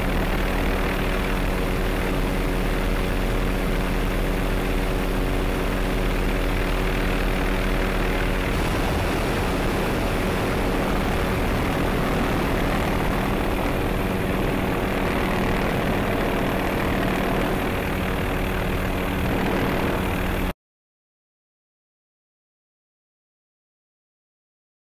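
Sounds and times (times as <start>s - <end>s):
steady engine tones: 0.0s - 20.5s
helicopter rotor and turbine: 0.0s - 20.6s.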